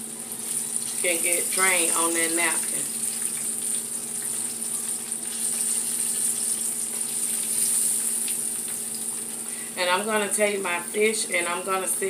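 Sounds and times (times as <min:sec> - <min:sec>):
food sizzling in oil: 0:00.0 - 0:09.7.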